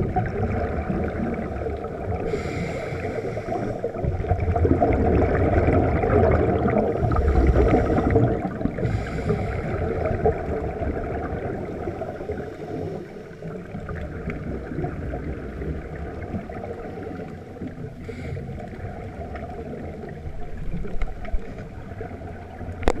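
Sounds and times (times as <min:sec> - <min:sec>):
steady underwater rush: 0:00.0 - 0:23.0
underwater exhaust bubbles gurgling: 0:00.0 - 0:23.0.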